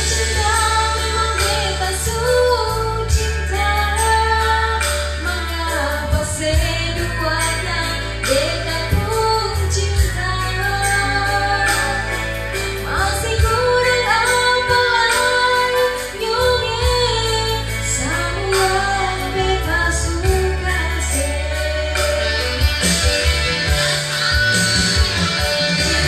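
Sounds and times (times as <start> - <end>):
woman singing: 0.0 - 22.8
backing track with bass line: 0.0 - 26.0.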